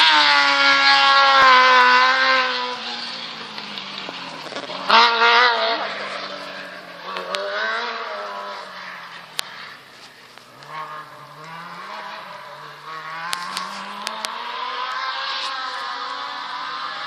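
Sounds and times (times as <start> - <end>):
buggy engine under throttle: 0.0 - 17.0.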